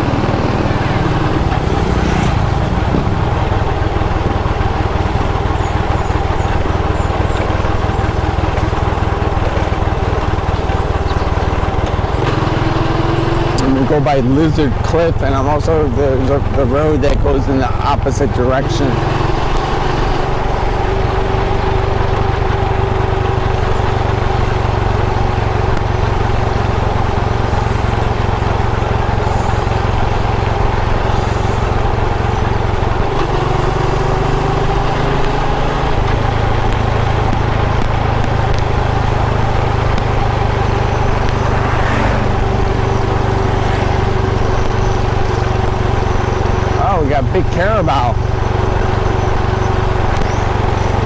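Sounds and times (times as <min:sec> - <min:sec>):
constant low rumble: 0:00.0 - 0:51.0
motorcycle engine running: 0:00.0 - 0:51.0.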